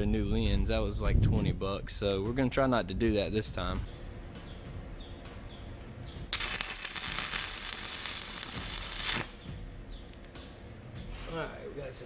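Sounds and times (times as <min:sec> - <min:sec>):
welding arc crackling and hissing: 0:00.0 - 0:12.0.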